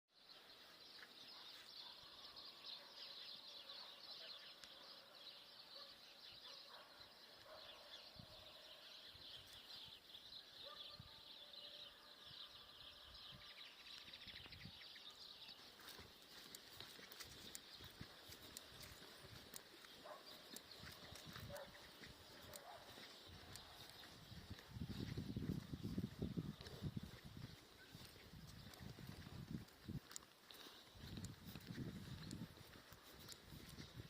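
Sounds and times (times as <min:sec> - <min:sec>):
small birds chirping: 0:00.1 - 0:34.0.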